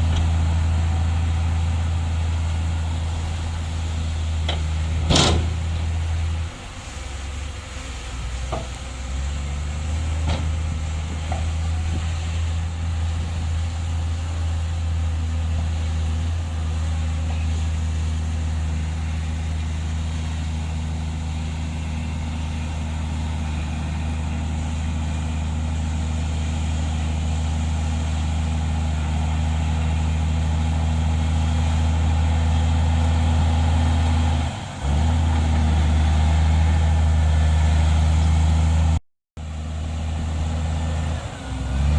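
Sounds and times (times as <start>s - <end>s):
diesel machinery engine drone: 0.0s - 41.9s.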